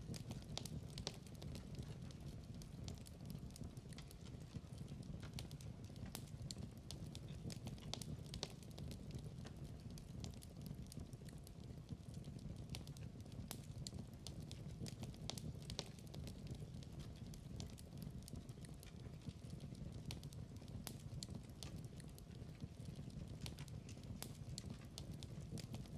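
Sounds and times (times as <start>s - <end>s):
fire crackles and pops: 0.0s - 25.9s
fire flame rumble: 0.0s - 25.9s.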